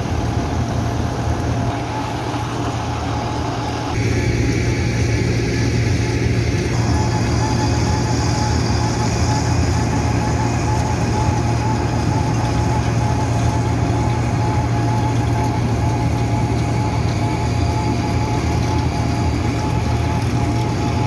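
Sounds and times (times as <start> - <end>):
conveyor running: 0.0 - 21.0
diesel engine under load: 0.0 - 21.0.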